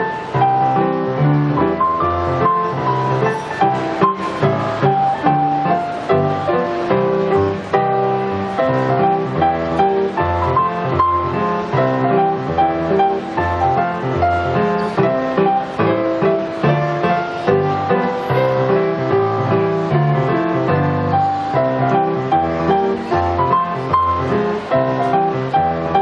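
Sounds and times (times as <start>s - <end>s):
piano playing: 0.0s - 26.0s.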